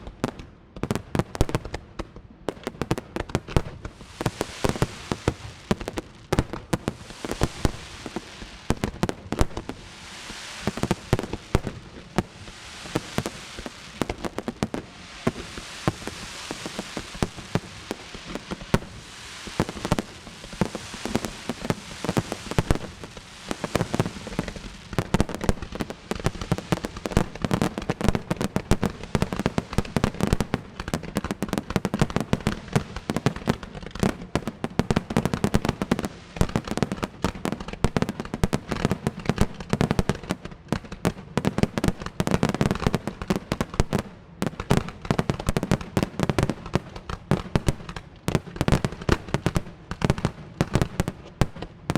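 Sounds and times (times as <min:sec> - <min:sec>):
fireworks bangs and booms: 0:00.0 - 0:51.9
fireworks crackling: 0:02.6 - 0:51.9.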